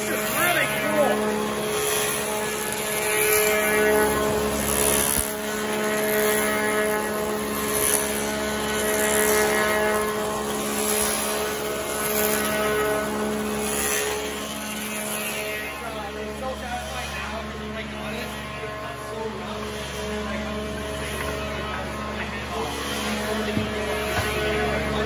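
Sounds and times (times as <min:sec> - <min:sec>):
cutter wheels rasping wood: 0:00.0 - 0:25.0
lathe motors humming: 0:00.0 - 0:25.0.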